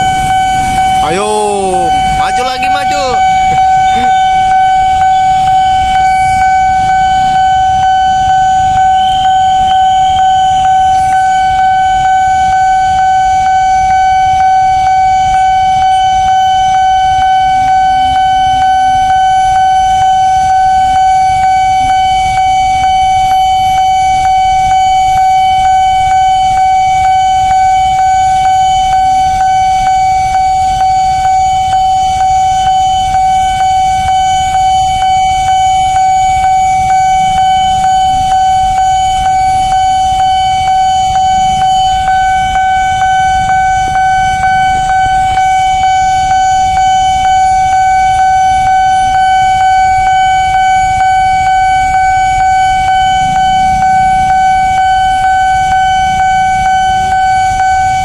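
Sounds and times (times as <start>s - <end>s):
level crossing alarm tone: 0.0s - 58.0s.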